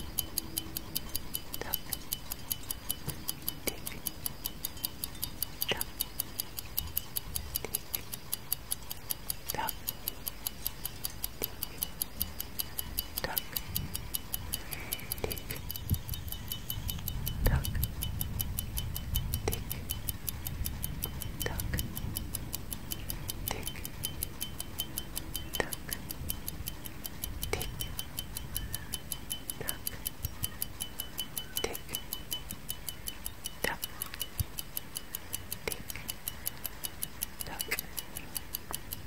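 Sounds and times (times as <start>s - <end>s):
clock ticking: 0.0s - 39.0s
louder fuller tick: 0.0s - 39.0s.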